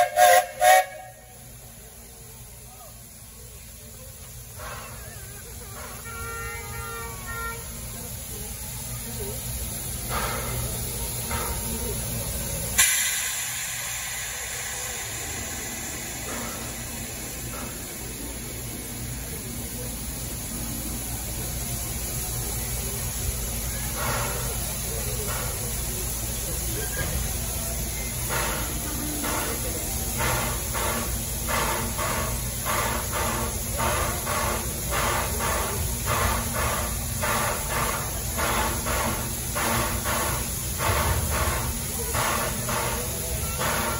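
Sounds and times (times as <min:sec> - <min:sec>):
loud blast of steam: 0:00.0 - 0:43.9
steam locomotive hissing: 0:00.0 - 0:43.9.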